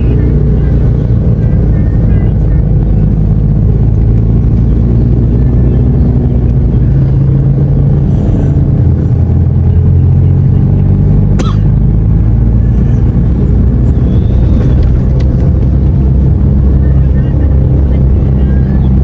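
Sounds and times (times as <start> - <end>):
car engine droning: 0.0 - 19.0.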